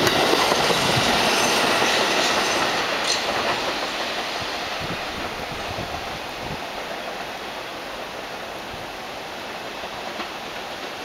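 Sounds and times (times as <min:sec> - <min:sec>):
subway train rumble: 0:00.0 - 0:11.0
steady background hiss: 0:01.1 - 0:11.0.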